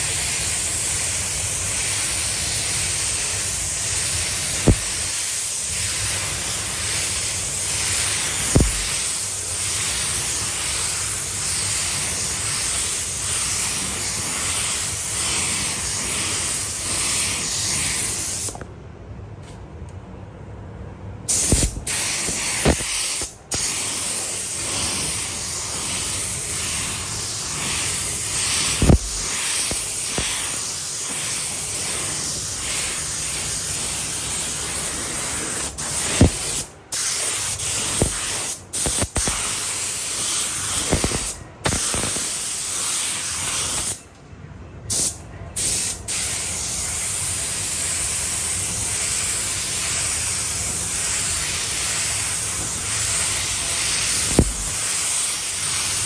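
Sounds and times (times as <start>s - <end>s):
spray gun hissing: 0.0s - 18.6s, 21.3s - 44.0s, 44.9s - 56.0s.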